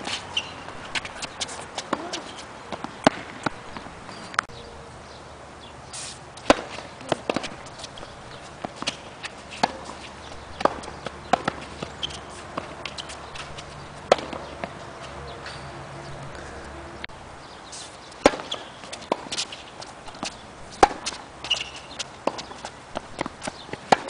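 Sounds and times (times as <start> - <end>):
tennis balls bouncing on hard court: 0.0 - 4.5, 6.4 - 15.7, 18.1 - 24.0
tennis balls struck by racquets: 0.0 - 4.5, 6.3 - 15.7, 17.0 - 24.0.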